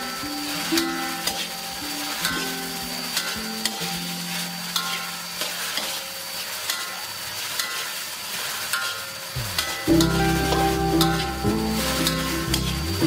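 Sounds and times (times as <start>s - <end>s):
beef and vegetables sizzling in a wok: 0.0s - 13.0s.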